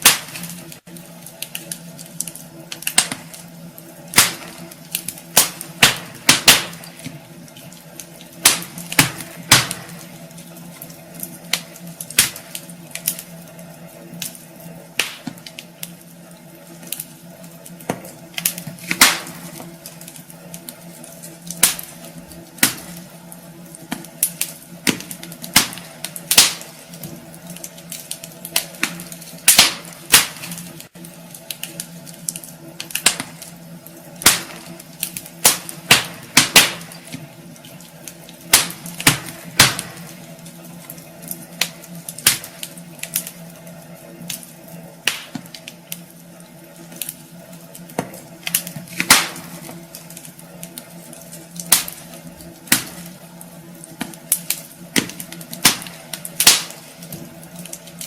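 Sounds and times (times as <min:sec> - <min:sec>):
steady low hum: 0:00.0 - 0:58.0
wood fire crackling and popping: 0:00.0 - 0:58.0.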